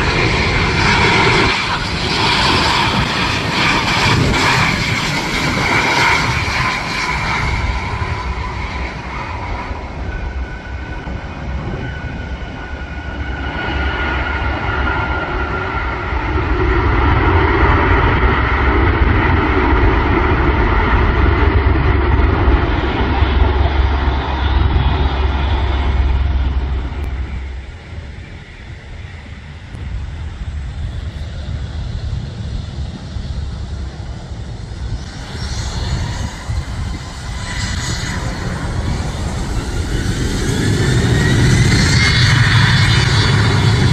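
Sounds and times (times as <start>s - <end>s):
jet engines rumbling and whining: 0.0s - 43.9s.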